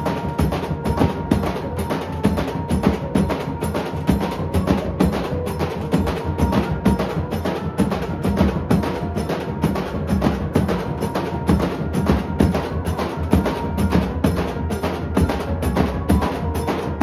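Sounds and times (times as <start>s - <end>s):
barrel drums beating: 0.0s - 17.0s.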